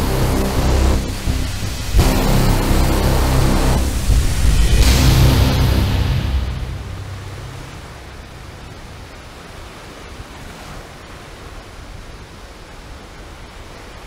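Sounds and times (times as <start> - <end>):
sea waves rushing: 0.0 - 14.0.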